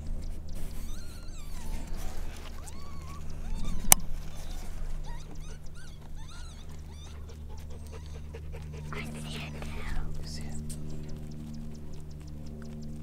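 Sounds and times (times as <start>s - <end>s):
steady low hum: 0.0s - 13.0s
coyote howling and yipping: 0.1s - 13.0s.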